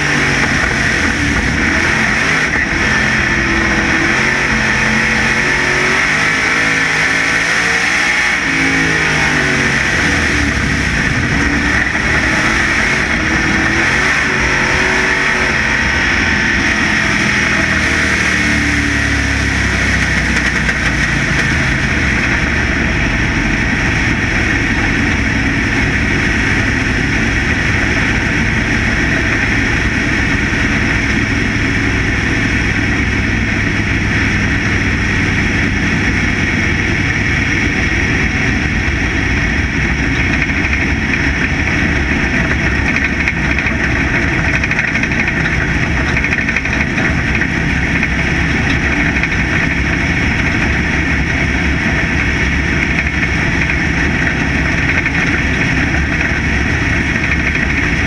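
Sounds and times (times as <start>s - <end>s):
race car engine drone: 0.0s - 58.0s.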